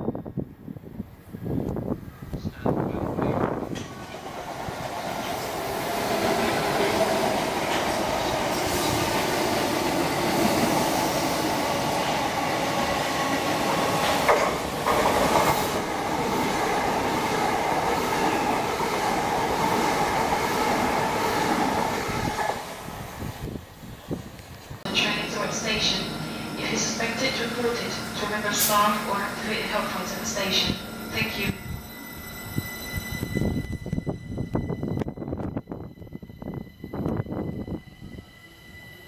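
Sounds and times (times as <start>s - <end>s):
train wheels rolling on rail: 0.8s - 39.0s.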